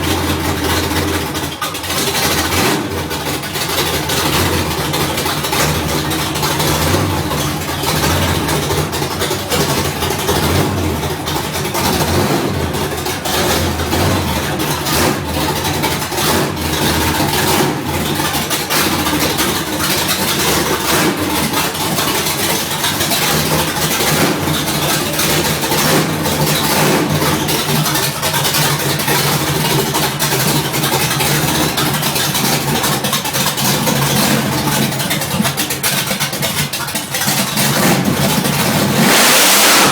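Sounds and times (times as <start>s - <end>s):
car engine rough idle: 0.0s - 39.9s.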